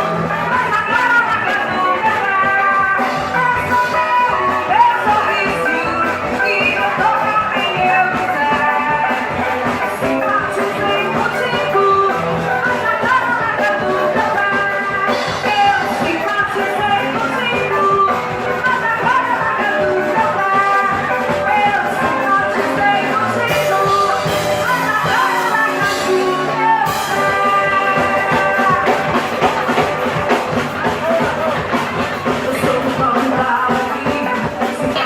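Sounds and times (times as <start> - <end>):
band playing fast instrumental: 0.0 - 35.0.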